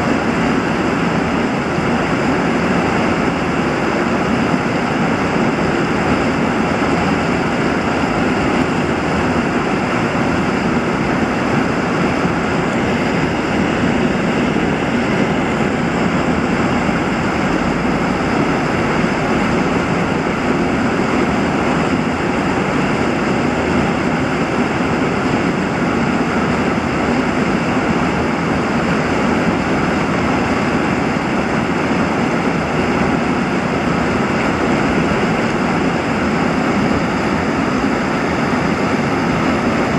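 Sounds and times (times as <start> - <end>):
fast-flowing water rushing: 0.0 - 39.9.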